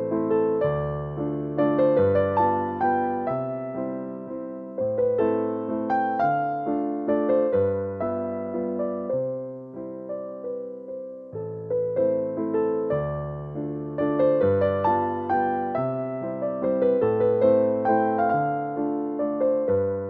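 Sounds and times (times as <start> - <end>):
gentle solo piano tune: 0.0 - 20.0.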